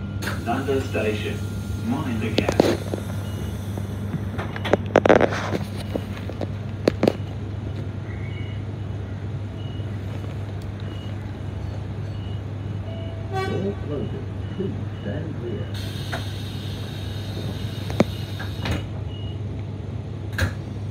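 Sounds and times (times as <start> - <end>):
electric train humming: 0.0 - 5.0, 7.4 - 20.4.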